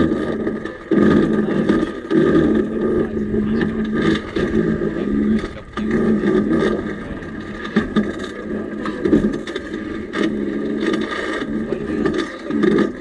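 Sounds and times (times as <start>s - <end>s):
knocks and rattles: 0.0s - 13.0s.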